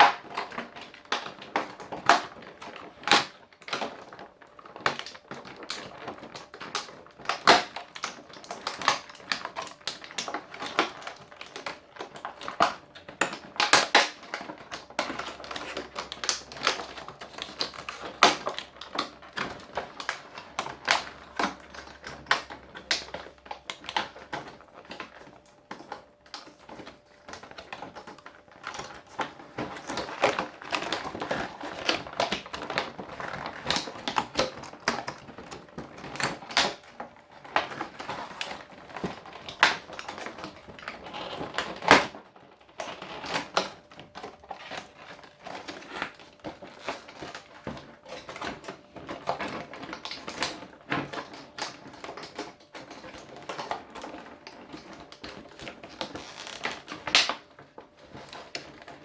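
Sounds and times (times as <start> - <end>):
plastic packaging crackling: 0.0 - 59.0.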